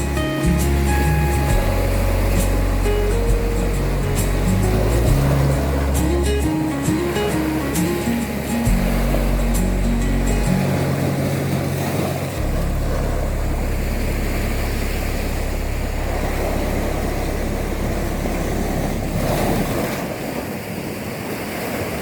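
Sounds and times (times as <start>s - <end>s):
sea waves washing ashore: 0.0s - 22.0s
wind rumble on microphone: 0.0s - 22.0s.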